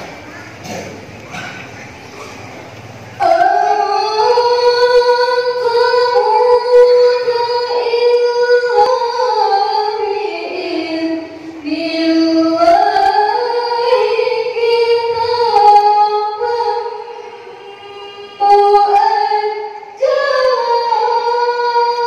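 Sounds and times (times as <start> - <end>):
high voice chanting: 0.0 - 22.0.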